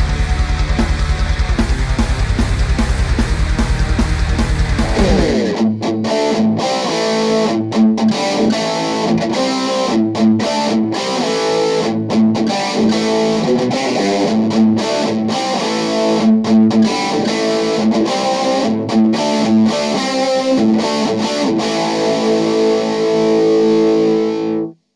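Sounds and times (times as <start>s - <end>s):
electric guitar through amp: 0.0s - 24.8s.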